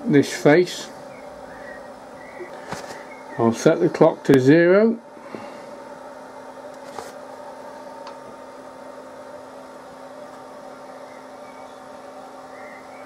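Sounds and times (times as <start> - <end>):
machine hum with constant tones: 0.0 - 13.0.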